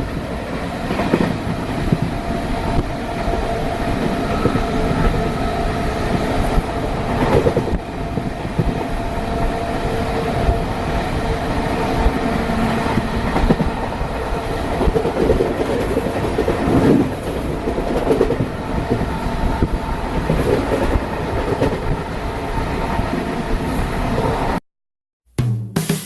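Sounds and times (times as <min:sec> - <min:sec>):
train passing at speed rumbling: 0:00.0 - 0:24.6.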